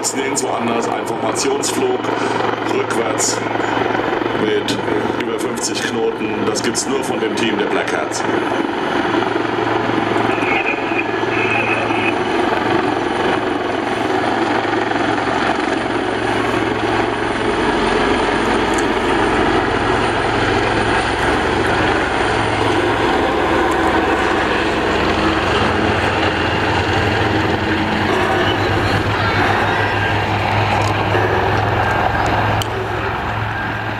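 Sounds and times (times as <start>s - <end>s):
helicopters flying overhead: 0.0s - 33.9s.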